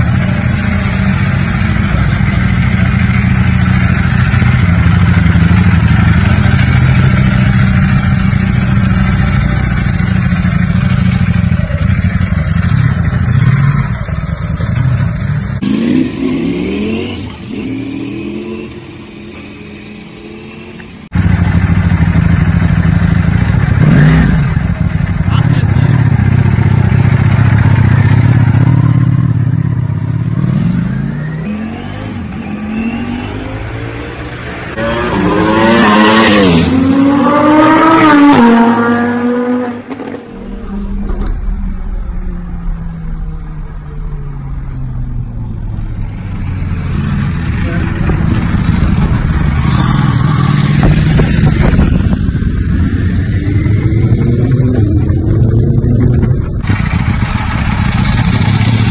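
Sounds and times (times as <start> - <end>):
motorcycle engine accelerating: 0.0 - 58.9.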